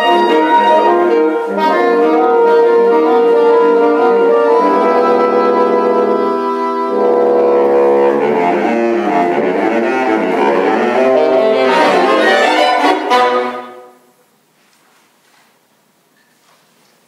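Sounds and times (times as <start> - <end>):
saxophone quartet playing: 0.0 - 14.1.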